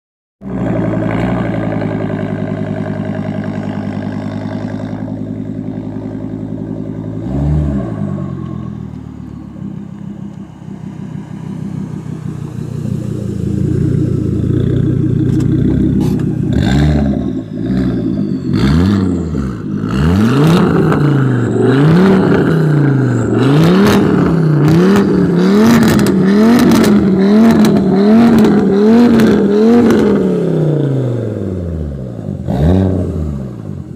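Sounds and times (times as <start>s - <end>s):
car engine revving: 0.4s - 33.9s.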